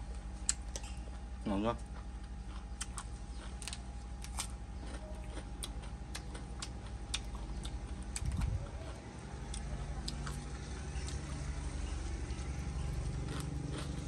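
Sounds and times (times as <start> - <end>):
low hum: 0.0 - 14.0
person chewing crunchy food: 0.0 - 14.0.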